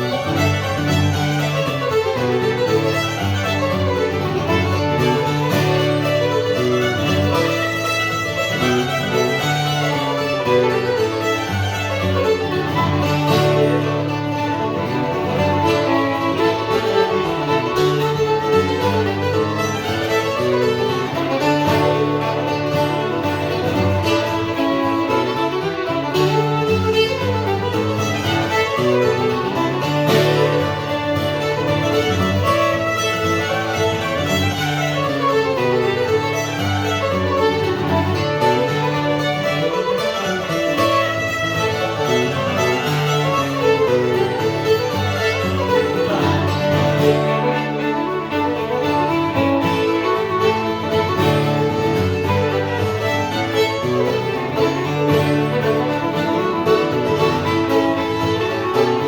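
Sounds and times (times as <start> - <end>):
fiddle: 0.0 - 59.0
guitar accompaniment: 0.0 - 59.0.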